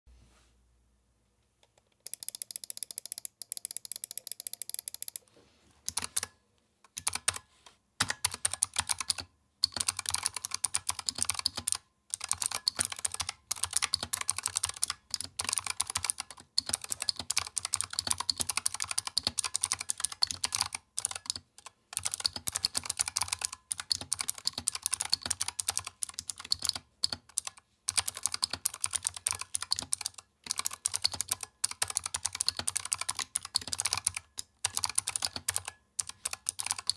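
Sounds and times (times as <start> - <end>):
clicky keyboard keystrokes: 5.9 - 36.9.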